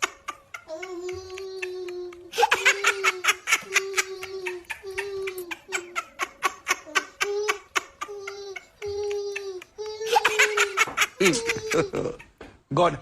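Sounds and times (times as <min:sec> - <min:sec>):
high-pitched laughter: 0:00.0 - 0:12.5.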